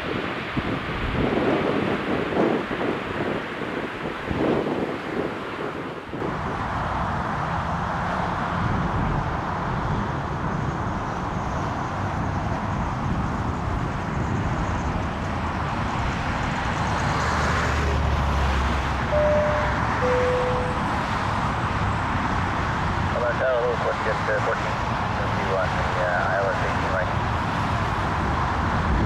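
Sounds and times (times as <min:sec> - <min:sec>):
wind buffeting microphone: 0:00.0 - 0:23.6, 0:24.3 - 0:29.0
jet airliner engines running: 0:00.0 - 0:29.0.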